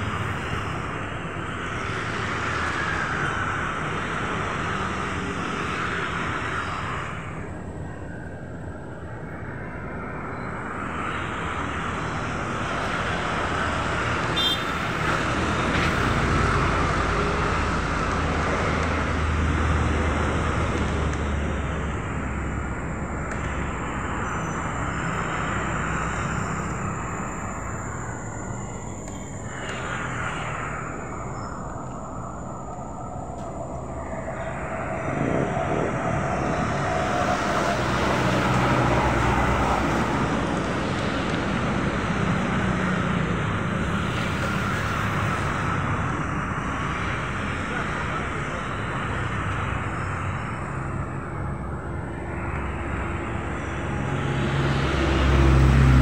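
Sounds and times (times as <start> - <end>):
outdoor rumble and hiss: 0.0 - 56.0.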